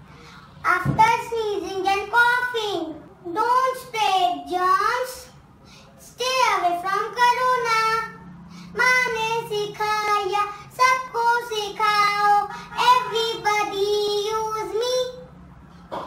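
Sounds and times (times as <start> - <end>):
boy singing: 0.6 - 5.4, 6.0 - 15.3.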